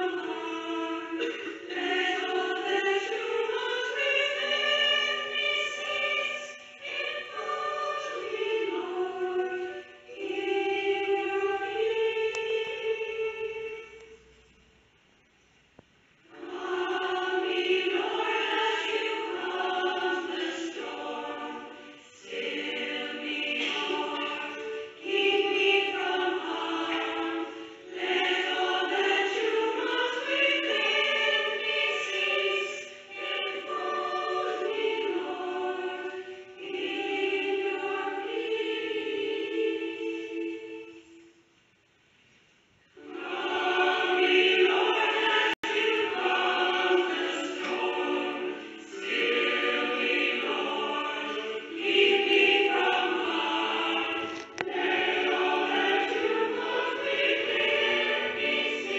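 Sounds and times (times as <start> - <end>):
choir singing slow phrases: 0.0 - 14.3, 16.2 - 41.4, 43.0 - 58.9.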